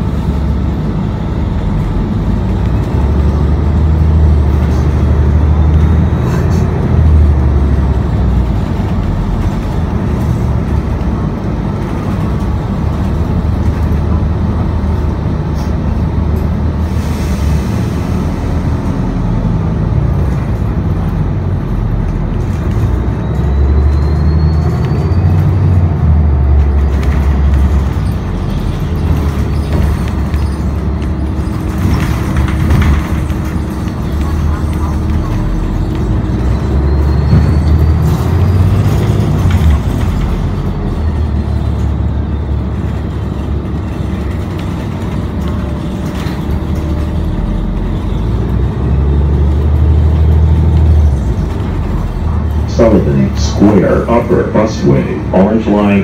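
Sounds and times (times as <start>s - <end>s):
bus drivetrain rumble: 0.0s - 56.0s.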